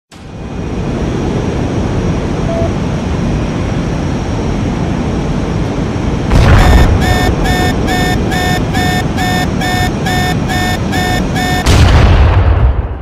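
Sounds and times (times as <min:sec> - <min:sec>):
jet engine rushing: 0:00.3 - 0:11.9.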